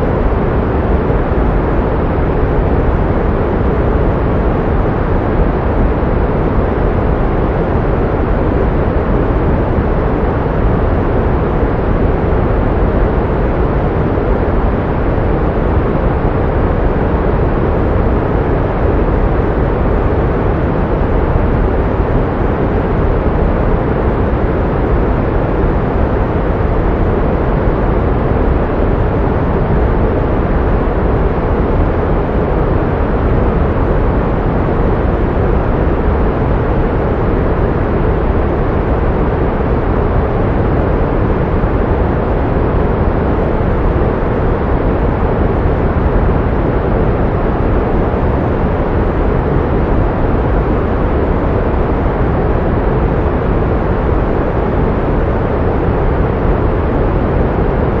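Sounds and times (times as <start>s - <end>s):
pink noise rush: 0.0s - 58.0s.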